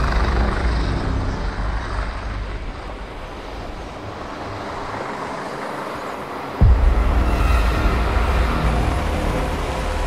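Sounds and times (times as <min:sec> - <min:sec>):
helicopter engine and rotor drone: 0:00.0 - 0:10.0.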